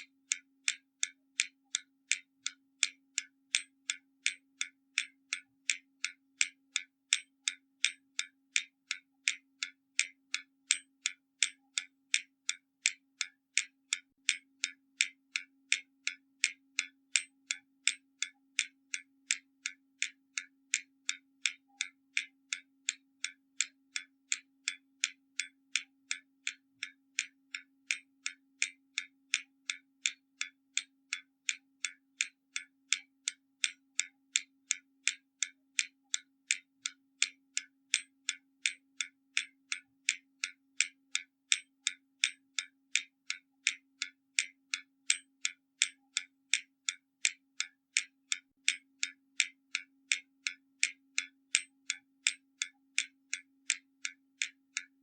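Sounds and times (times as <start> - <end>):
clock ticking: 0.0 - 55.0.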